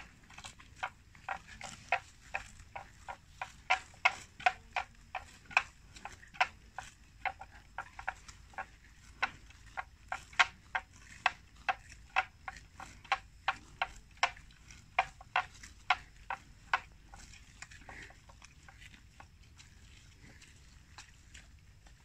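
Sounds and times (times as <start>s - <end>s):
buffalo tearing grass: 0.0s - 22.0s.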